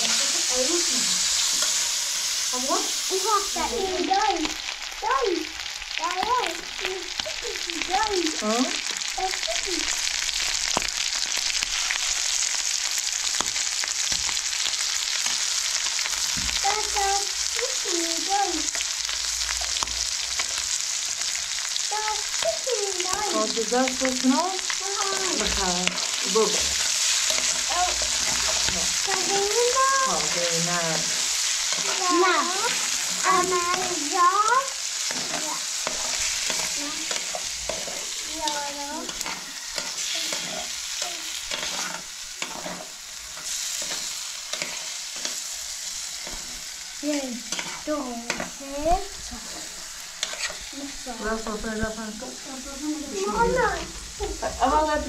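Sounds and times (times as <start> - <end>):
food sizzling in a pan: 0.0 - 55.0
stirring in a pan: 0.0 - 55.0.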